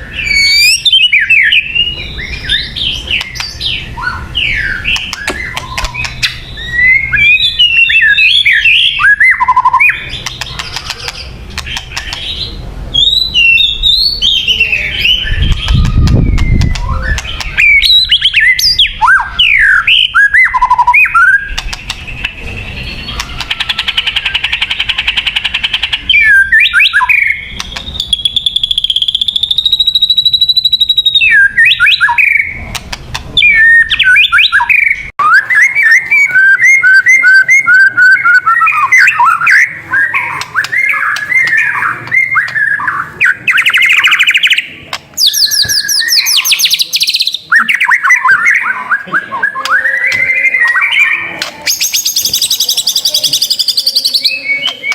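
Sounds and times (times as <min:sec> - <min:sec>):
bird singing whistled phrases: 0:00.0 - 0:10.4, 0:12.0 - 0:21.6, 0:22.3 - 0:32.6, 0:33.4 - 0:54.9.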